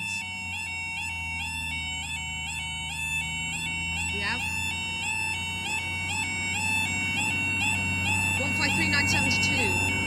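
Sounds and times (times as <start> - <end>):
level crossing warning alarm: 0.0 - 10.0.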